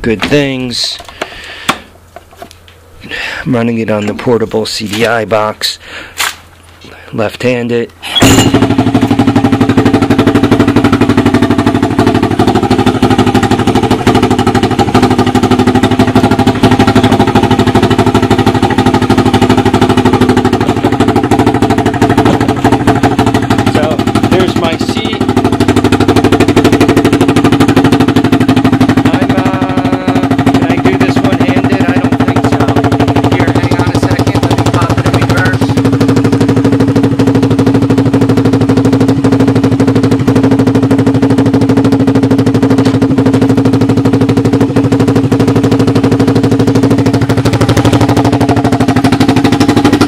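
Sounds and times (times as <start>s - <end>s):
engine idling: 8.1s - 50.0s.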